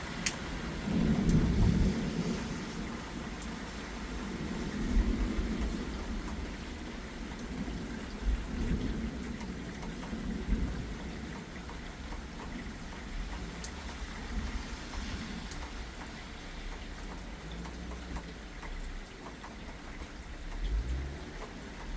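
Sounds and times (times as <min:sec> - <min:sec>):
distant thunder rumbles: 0:00.0 - 0:21.9
light rain falling: 0:00.0 - 0:21.9.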